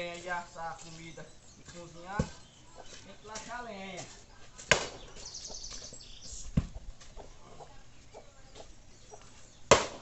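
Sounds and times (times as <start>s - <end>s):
bird chirping: 0.0s - 9.8s.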